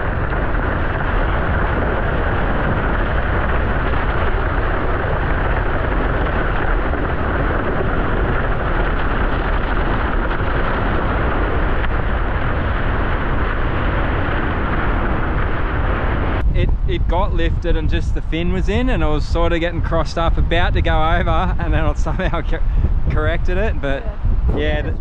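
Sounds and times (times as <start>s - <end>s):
wind buffeting on microphone: 0.0s - 25.0s.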